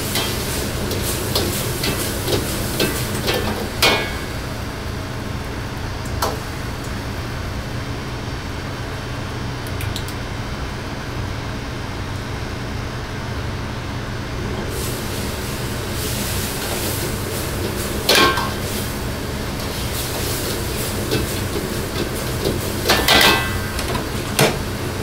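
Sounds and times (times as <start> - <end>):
wok burner roaring: 0.0 - 25.0.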